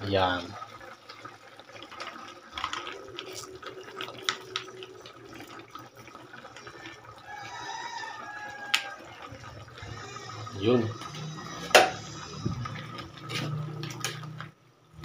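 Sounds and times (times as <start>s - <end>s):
stew bubbling in a pan: 0.0s - 15.0s.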